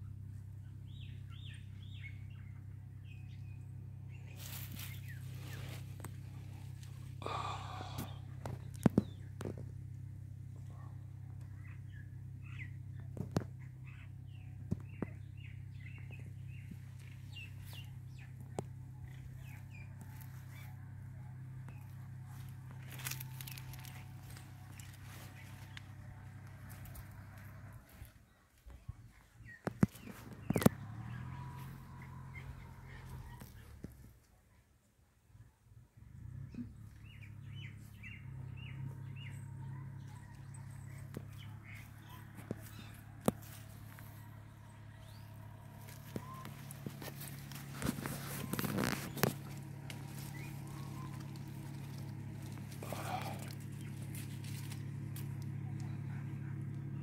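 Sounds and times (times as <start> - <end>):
steady low hum: 0.0 - 34.1, 36.8 - 57.0
small birds chirping: 0.0 - 34.2, 36.4 - 57.0.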